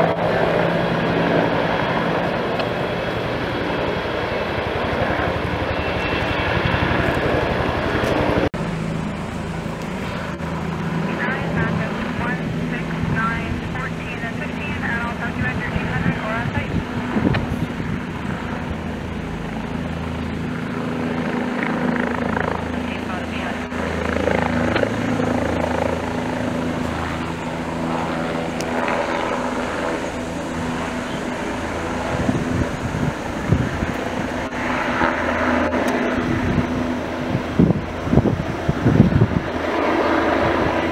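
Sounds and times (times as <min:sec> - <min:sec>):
helicopter rotor beating: 0:00.0 - 0:40.9.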